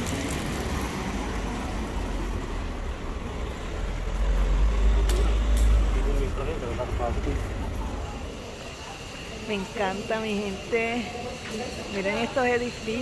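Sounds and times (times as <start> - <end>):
car engines and road noise: 0.0 - 13.0.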